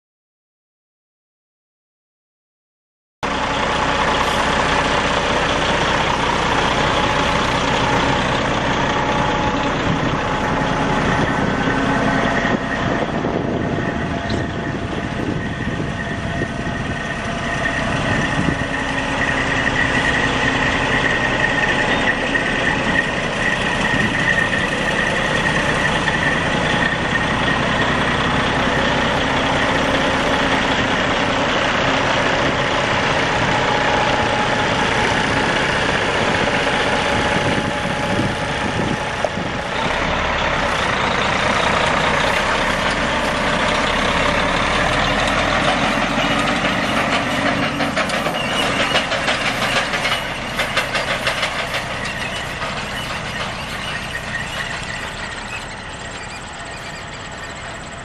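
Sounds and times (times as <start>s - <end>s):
diesel truck engine idling: 3.2s - 58.0s.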